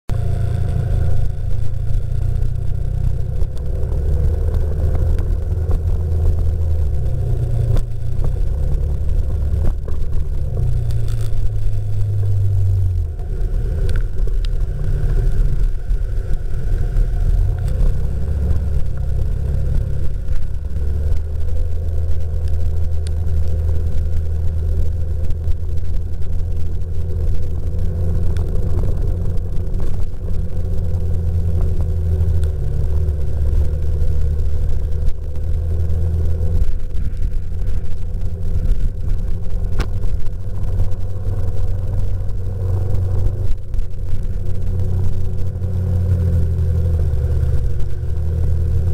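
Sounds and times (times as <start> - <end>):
strong wind rumbling: 0.1 - 48.9.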